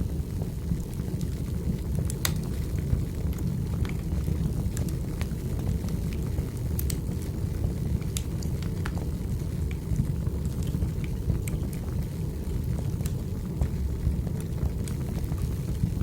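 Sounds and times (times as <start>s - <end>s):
crackles and pops of burning logs: 0.0s - 16.0s
low rumble of flames: 0.0s - 16.0s.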